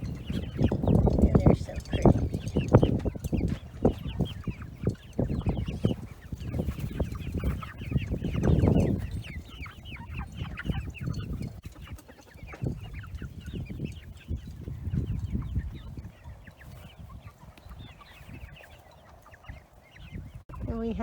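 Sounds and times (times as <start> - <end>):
young chickens peeping: 0.0 - 21.0.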